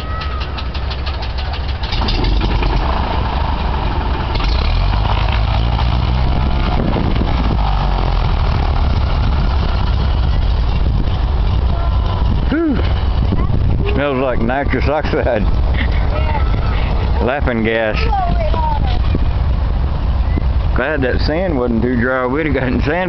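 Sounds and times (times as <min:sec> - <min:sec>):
propeller plane engine running: 0:00.0 - 0:21.0.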